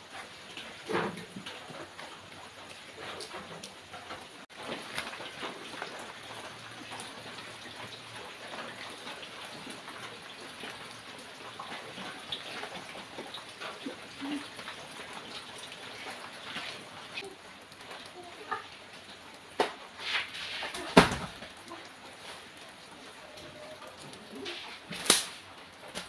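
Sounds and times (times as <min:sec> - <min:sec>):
rain on concrete: 0:00.0 - 0:26.0.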